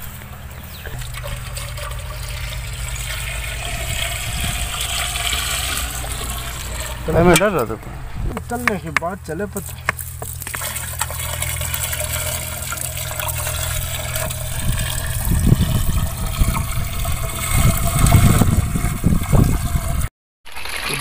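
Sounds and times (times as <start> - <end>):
water pouring and splashing: 0.0 - 7.8, 8.5 - 21.0
low hum: 0.0 - 20.1.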